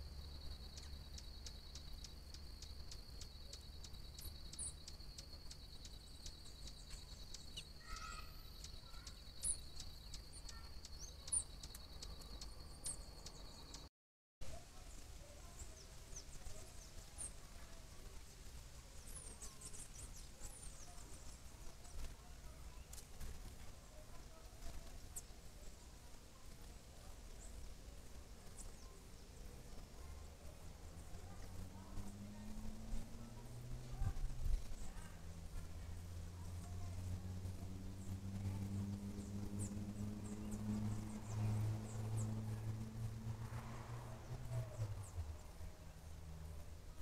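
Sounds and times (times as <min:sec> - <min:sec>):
small birds chirping: 0:00.0 - 0:13.9, 0:14.5 - 0:47.0.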